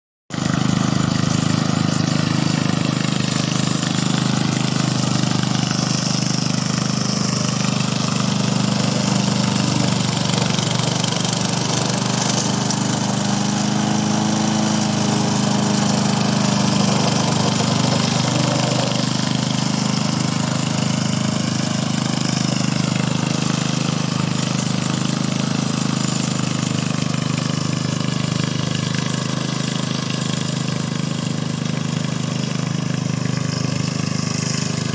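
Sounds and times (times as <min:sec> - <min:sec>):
lawn mower engine running: 0:00.3 - 0:34.9.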